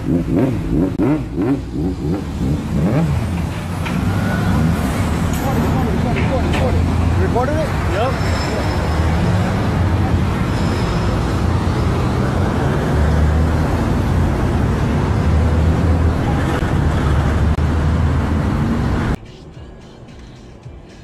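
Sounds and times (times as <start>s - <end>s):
roadside traffic rushing: 0.0s - 21.0s.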